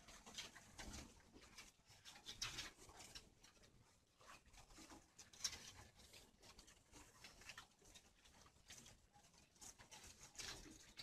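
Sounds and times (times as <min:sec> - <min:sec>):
doves pecking and rustling: 0:00.0 - 0:11.0.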